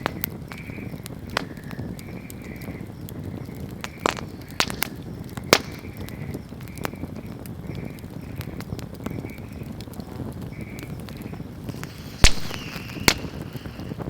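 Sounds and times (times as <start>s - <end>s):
bonfire crackling: 0.0s - 14.0s
sharp fire pops: 0.0s - 14.0s.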